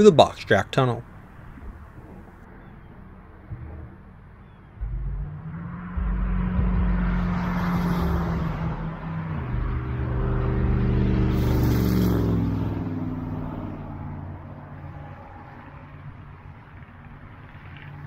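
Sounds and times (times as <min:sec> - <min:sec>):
locomotive engine drone: 0:01.0 - 0:18.0.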